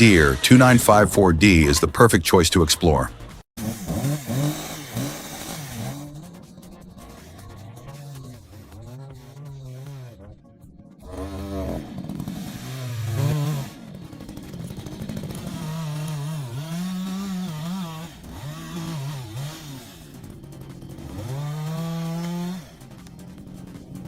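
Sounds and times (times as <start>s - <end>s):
chainsaw engine revving: 0.0s - 2.1s, 2.9s - 24.0s.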